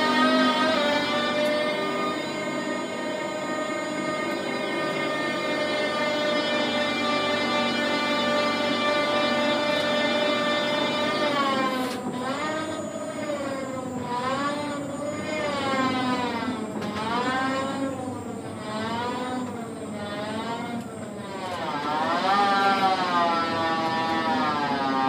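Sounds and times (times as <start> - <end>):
crane motor whining: 0.0 - 25.0.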